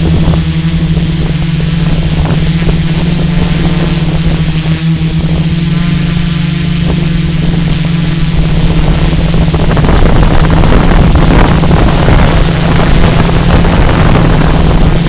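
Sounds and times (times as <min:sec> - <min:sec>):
drone propellers humming: 0:00.0 - 0:15.0
wind rushing over microphone: 0:00.0 - 0:15.0.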